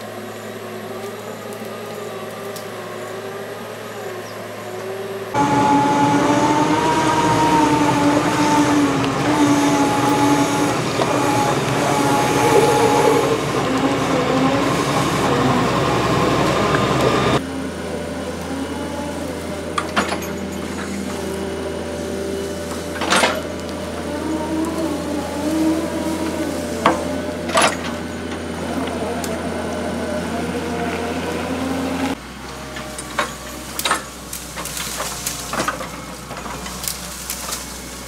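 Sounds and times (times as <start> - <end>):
excavator diesel engine whining: 0.0 - 38.0.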